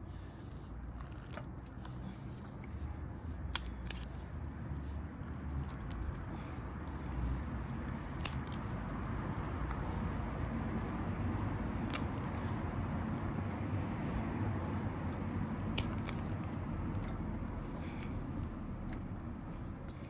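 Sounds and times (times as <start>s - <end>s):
low steady rumble: 0.0s - 20.0s
fire crackling and popping: 0.1s - 20.0s.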